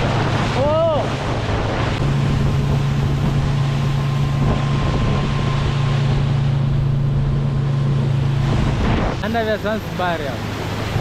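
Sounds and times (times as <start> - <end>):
wind rushing: 0.0 - 9.9
boat wake on water: 0.0 - 11.0
motorboat engine droning: 0.0 - 11.0.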